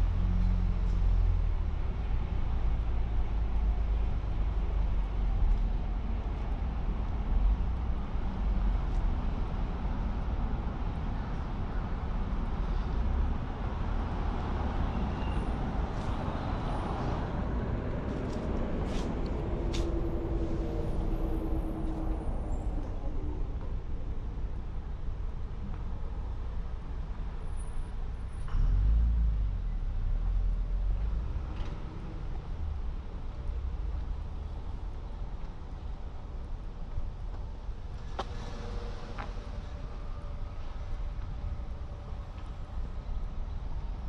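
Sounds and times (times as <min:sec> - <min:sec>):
low vehicle rumble: 0:00.0 - 0:44.0
vehicles passing: 0:00.0 - 0:44.0.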